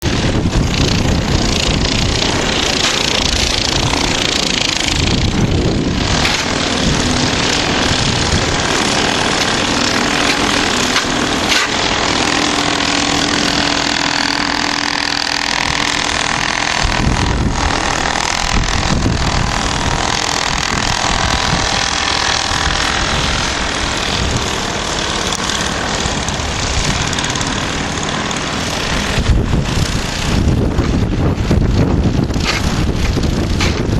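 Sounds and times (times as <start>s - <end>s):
strong gusting wind on microphone: 0.0s - 33.9s.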